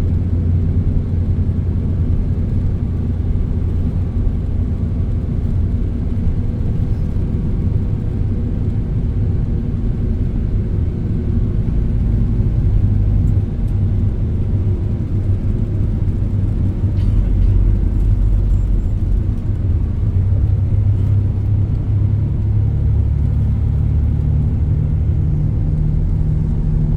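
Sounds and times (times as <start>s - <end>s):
vehicle engine and road rumble: 0.0s - 26.9s.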